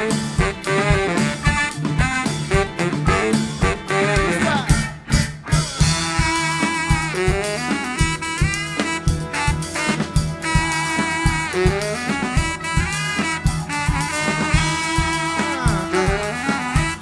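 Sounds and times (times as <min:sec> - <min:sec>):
baritone saxophone melody: 0:00.0 - 0:17.0
drum kit beat: 0:00.0 - 0:17.0.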